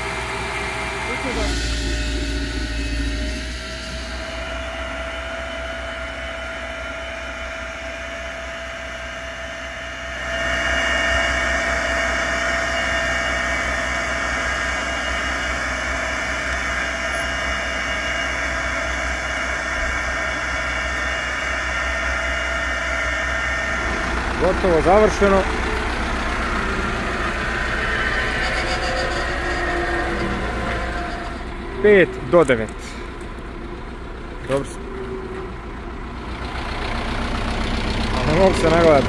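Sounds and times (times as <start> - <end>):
steady whine: 0.0 - 39.0
tractor engine running: 0.0 - 39.0.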